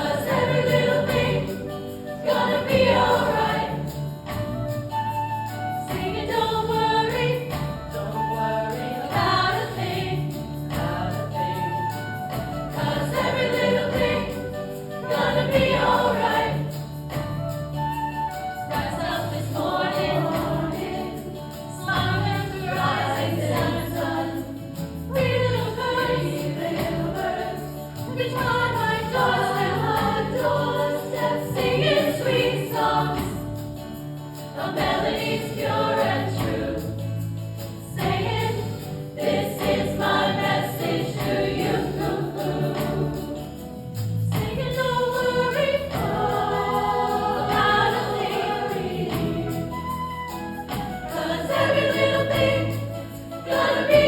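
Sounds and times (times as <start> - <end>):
women's choir singing: 0.0 - 50.0, 50.7 - 54.0
instrumental accompaniment: 0.0 - 54.0.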